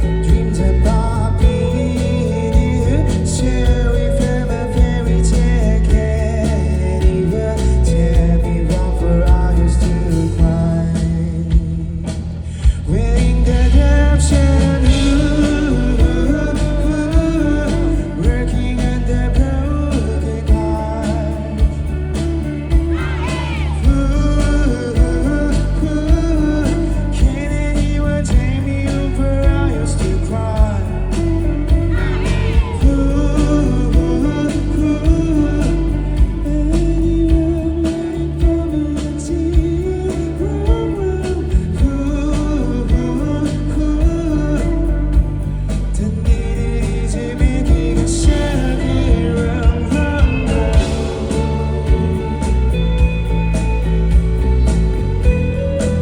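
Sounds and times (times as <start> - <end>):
live rock band with singing: 0.0 - 56.0.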